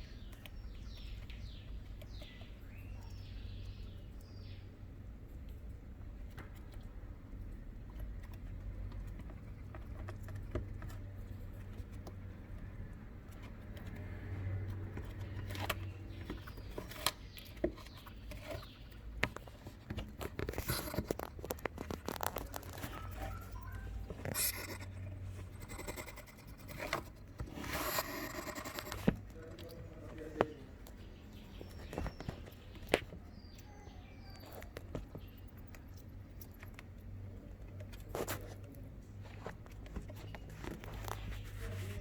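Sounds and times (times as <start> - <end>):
hedgehog crunching insects: 0.0 - 42.0.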